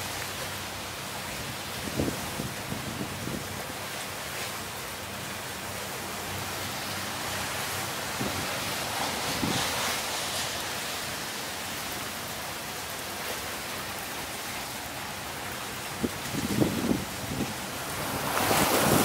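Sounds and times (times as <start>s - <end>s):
rain: 0.0s - 19.0s
wind: 0.0s - 19.0s
wind gusts on microphone: 1.4s - 4.2s, 6.2s - 19.0s.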